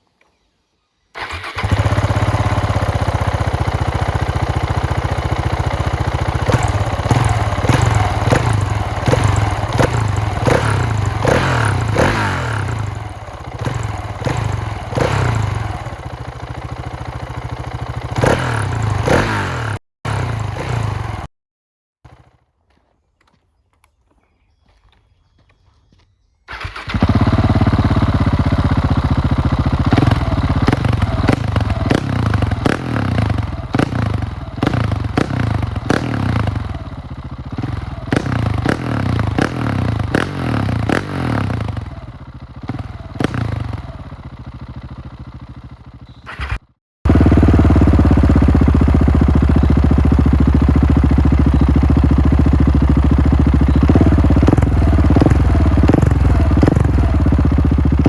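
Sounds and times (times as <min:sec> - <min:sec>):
motorcycle engine running: 0:01.2 - 0:21.3, 0:22.1 - 0:22.9, 0:26.5 - 0:58.0.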